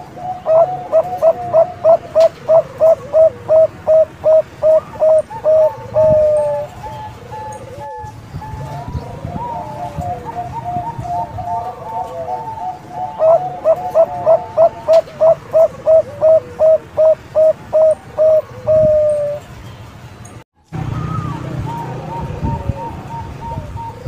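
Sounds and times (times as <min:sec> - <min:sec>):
dove cooing: 0:00.0 - 0:19.5, 0:20.9 - 0:24.0.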